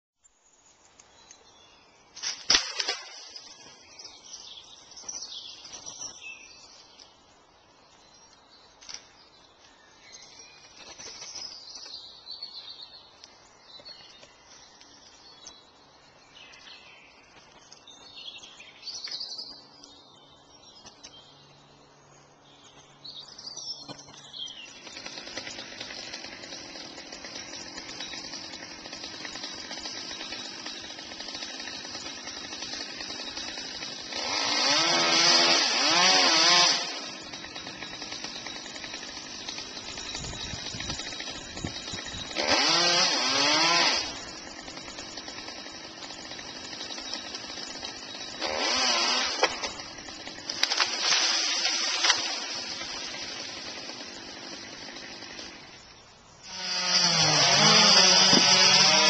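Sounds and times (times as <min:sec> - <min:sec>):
birds singing and calling: 0:00.4 - 0:59.0.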